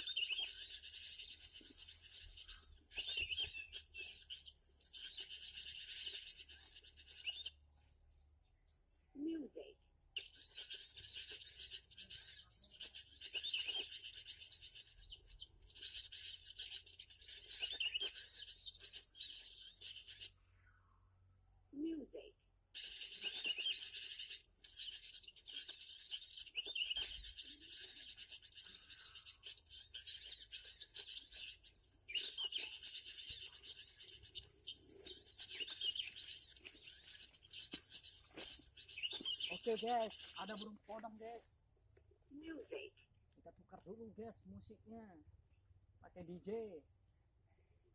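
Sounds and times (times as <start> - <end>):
recorded bird song from speaker: 0.0 - 47.9.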